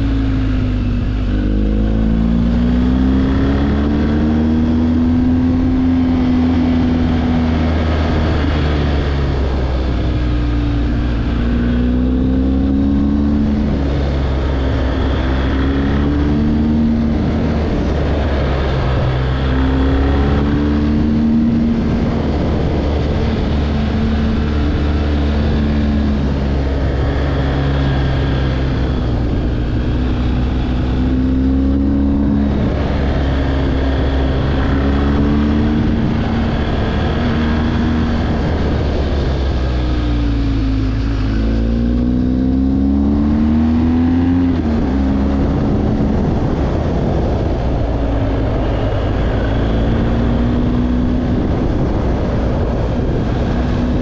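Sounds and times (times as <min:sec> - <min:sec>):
vehicle engine accelerating: 0:00.0 - 0:54.0
wind and road noise: 0:00.0 - 0:54.0.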